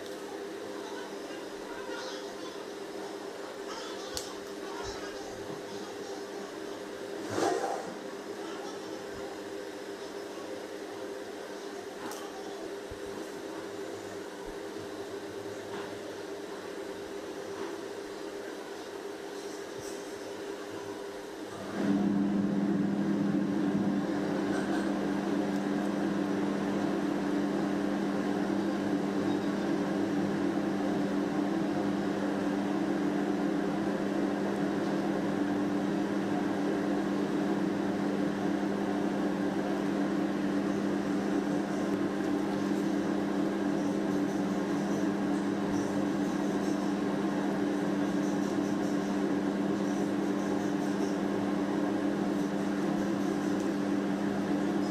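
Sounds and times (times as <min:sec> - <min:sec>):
machine hum with low drone: 0:00.0 - 0:54.9.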